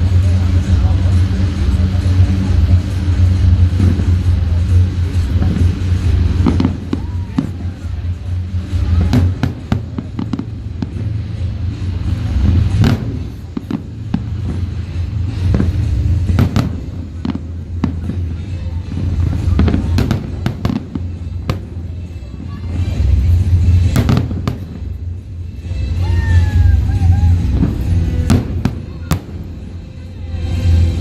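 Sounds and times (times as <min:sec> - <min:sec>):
fireworks bangs and crackles: 0:00.0 - 0:31.0
low rumble: 0:00.0 - 0:31.0.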